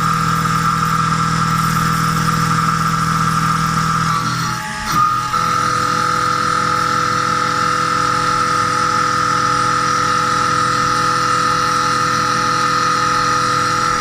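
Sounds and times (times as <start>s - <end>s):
machine spindle whine: 0.0s - 14.0s.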